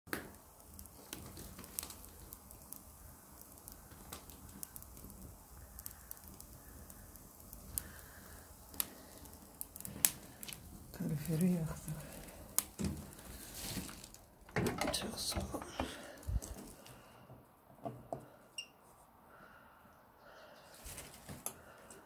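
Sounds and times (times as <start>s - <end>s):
low fire hiss: 0.1s - 22.0s
wood fire crackling: 0.1s - 22.0s.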